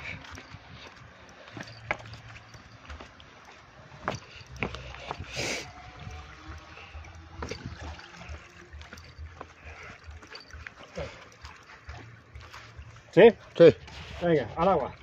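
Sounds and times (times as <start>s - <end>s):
sea water lapping: 0.0s - 15.0s.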